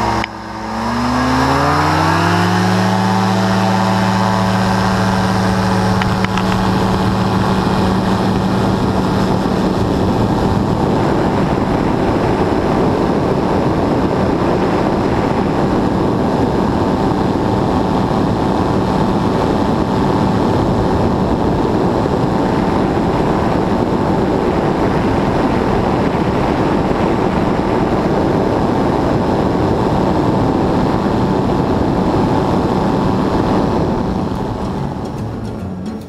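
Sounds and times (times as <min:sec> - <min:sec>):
ultralight engine and propeller: 0:00.0 - 0:36.0
wind rushing over microphone: 0:00.0 - 0:36.0.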